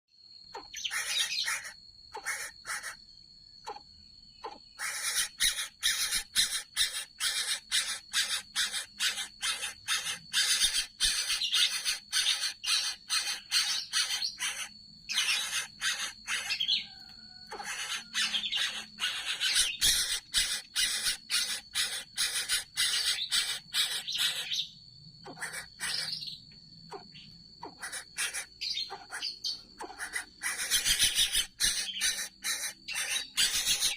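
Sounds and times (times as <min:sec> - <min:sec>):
chick harsh rasping calls: 0:00.6 - 0:03.0, 0:04.4 - 0:24.6, 0:25.3 - 0:26.2, 0:26.9 - 0:33.9.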